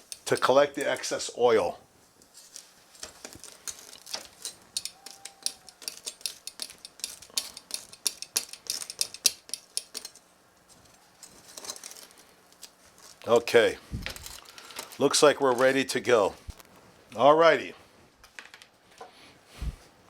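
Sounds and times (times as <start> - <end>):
hot oil crackling and popping: 0.0 - 10.7, 11.5 - 17.1.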